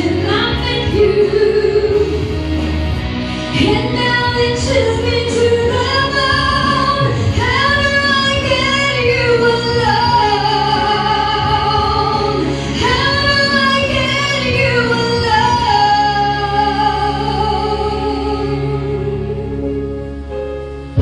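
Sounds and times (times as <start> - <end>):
woman singing into a microphone: 0.0 - 2.5, 3.5 - 20.1.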